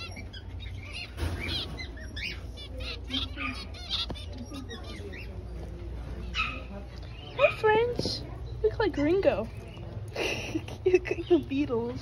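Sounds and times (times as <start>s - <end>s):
finches chattering: 0.0s - 12.0s.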